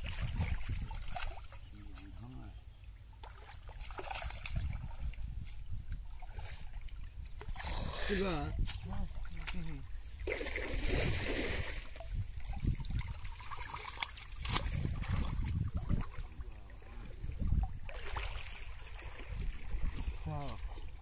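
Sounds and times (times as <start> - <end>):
muddy water sloshing and splashing: 0.0 - 21.0.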